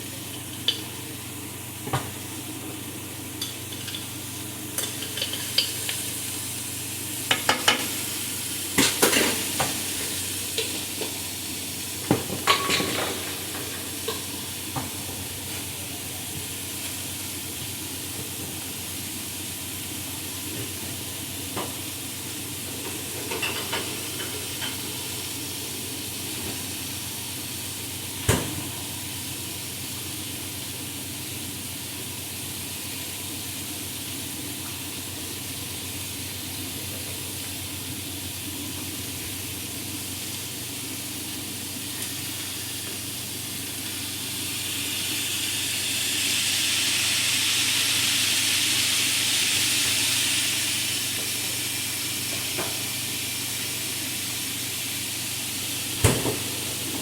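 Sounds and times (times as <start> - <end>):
chicken sizzling in frying pan: 0.0 - 57.0.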